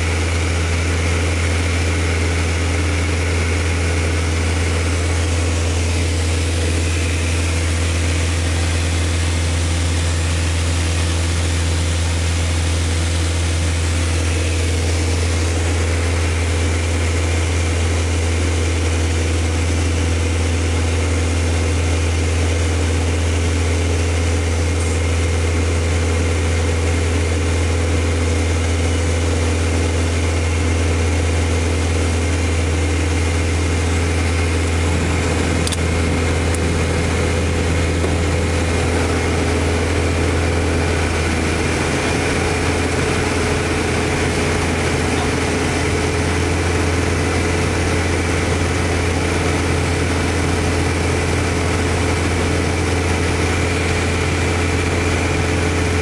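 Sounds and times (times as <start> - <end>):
propeller aircraft engine droning: 0.0 - 56.0.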